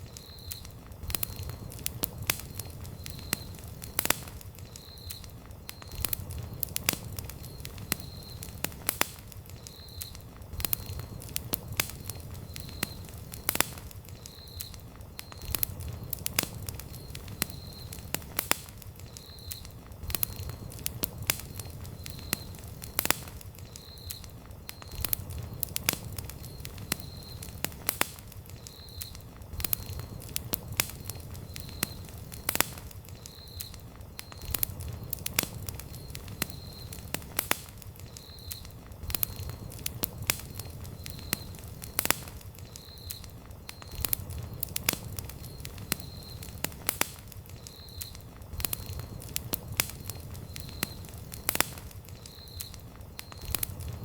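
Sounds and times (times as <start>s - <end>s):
campfire crackling and popping: 0.0s - 54.0s
rush of flame: 0.0s - 54.0s.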